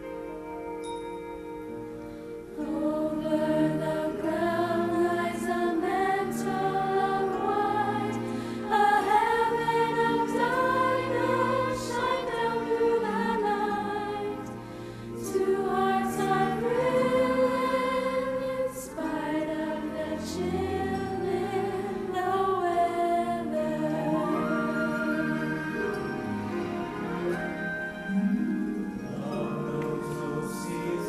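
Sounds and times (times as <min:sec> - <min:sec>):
choir singing: 0:02.5 - 0:31.0.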